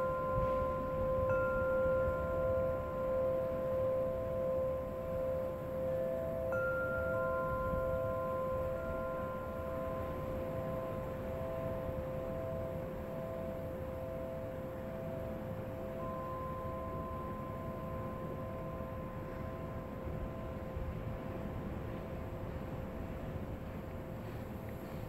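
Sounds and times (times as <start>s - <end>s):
wind chime ringing: 0.0s - 23.2s
low rush of wind: 0.0s - 25.0s.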